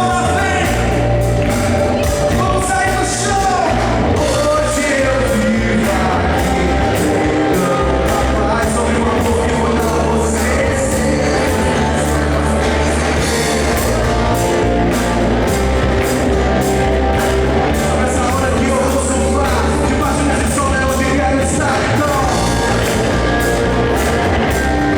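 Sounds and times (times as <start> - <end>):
drums beating: 0.0 - 24.9
rock band playing: 0.0 - 24.9
voices singing: 0.0 - 24.9.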